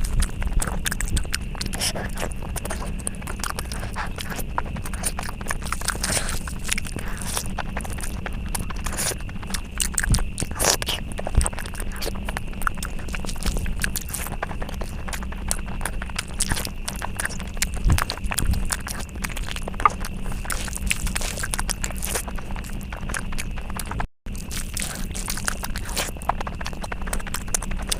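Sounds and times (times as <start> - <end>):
faint steady hum: 0.0 - 27.9
person chewing and biting: 0.0 - 27.9.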